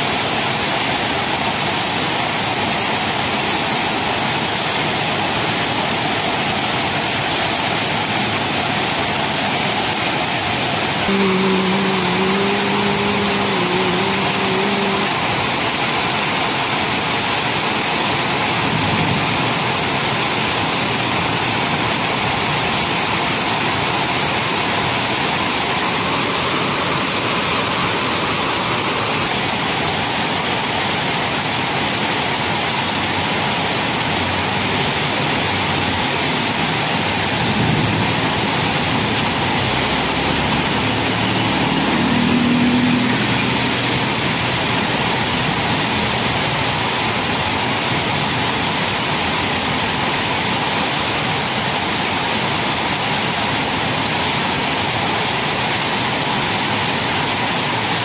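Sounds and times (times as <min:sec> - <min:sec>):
heavy rain on flooded street: 0:00.0 - 0:58.0.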